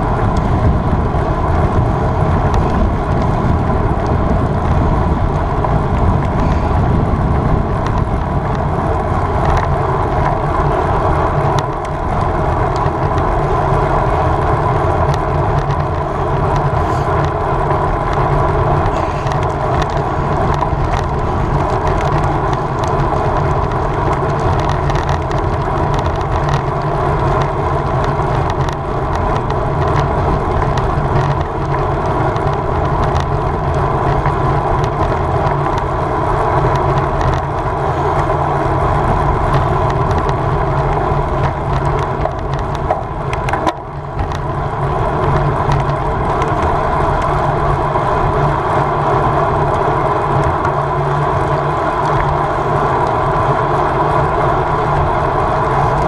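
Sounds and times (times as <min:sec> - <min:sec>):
bike tyre hum: 0:00.0 - 0:56.0
wind rush over microphone: 0:00.0 - 0:56.0.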